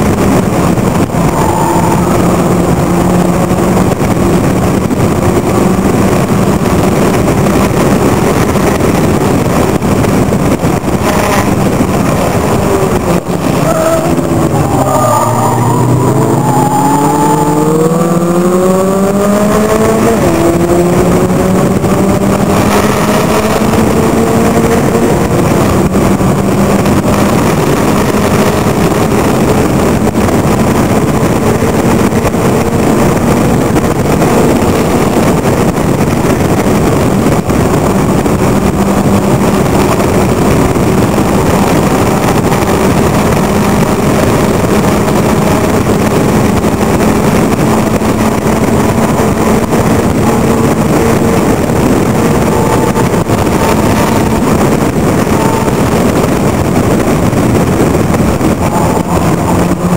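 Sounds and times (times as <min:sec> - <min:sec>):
racing car engine revving: 0:00.0 - 0:59.9
road and air noise: 0:00.0 - 0:59.9.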